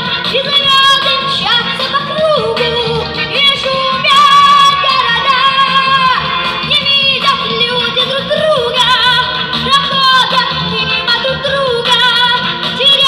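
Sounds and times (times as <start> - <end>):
backing track music: 0.0 - 13.0
girl singing into microphone: 0.0 - 13.0.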